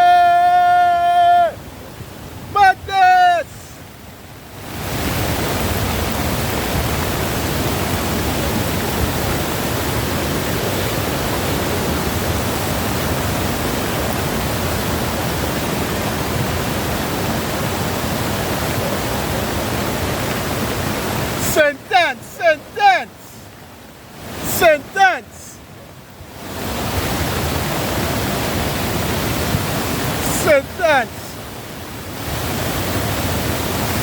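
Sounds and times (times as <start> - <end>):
heavy rain: 0.0 - 34.0
rushing floodwater: 0.0 - 34.0.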